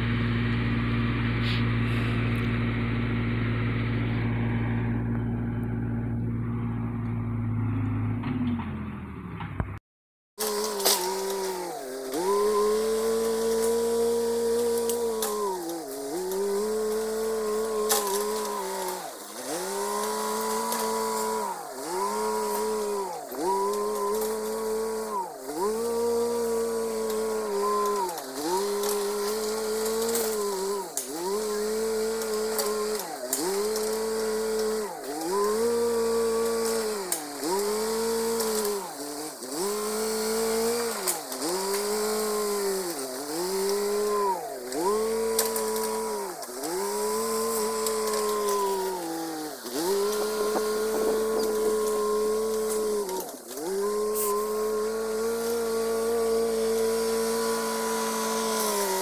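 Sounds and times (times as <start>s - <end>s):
engine revving with dipping pitch: 0.0s - 9.8s, 10.4s - 59.0s.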